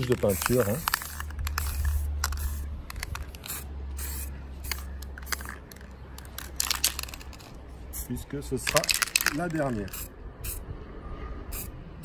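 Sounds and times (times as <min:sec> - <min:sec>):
spray-paint can hissing: 0:00.1 - 0:08.1, 0:08.7 - 0:10.6, 0:11.5 - 0:11.7.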